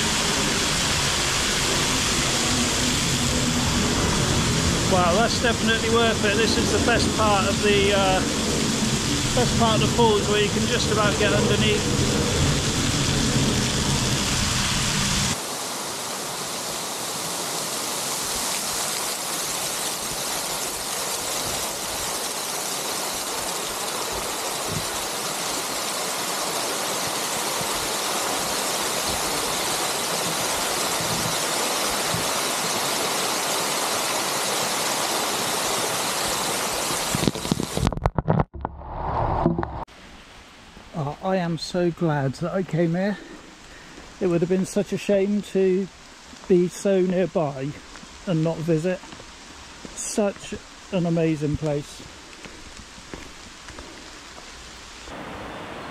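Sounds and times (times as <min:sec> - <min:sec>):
waterfall rushing: 0:00.0 - 0:37.9, 0:43.2 - 0:55.9.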